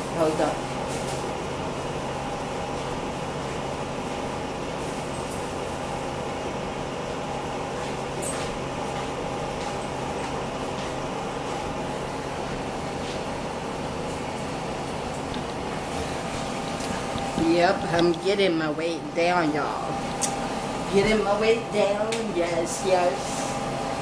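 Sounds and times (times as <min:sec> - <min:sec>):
air conditioner fan drone: 0:00.0 - 0:24.0.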